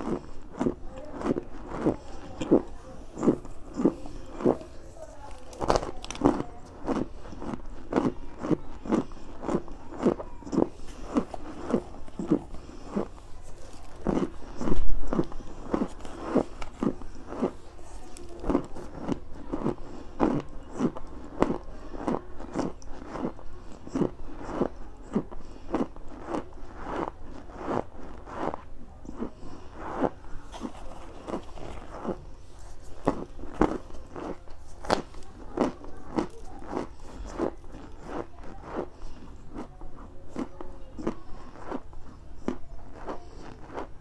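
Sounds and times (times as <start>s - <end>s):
crunchy chewing: 0.0s - 44.0s.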